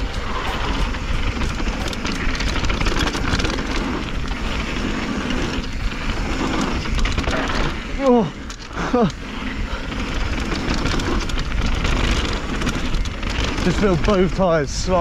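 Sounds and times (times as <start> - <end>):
bike rattling: 0.0 - 15.0
tyres rolling over gravel: 0.0 - 15.0
wind rumble on microphone: 0.0 - 15.0.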